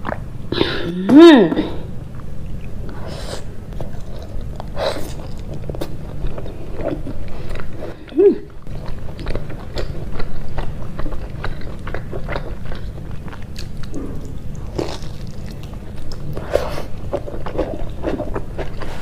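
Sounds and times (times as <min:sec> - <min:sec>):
steady low hum: 0:00.0 - 0:19.0
chewing and crunching food: 0:02.0 - 0:19.0.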